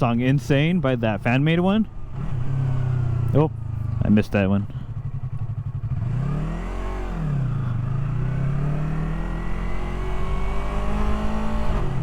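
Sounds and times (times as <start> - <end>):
motorcycle engine revving: 2.1 - 12.0.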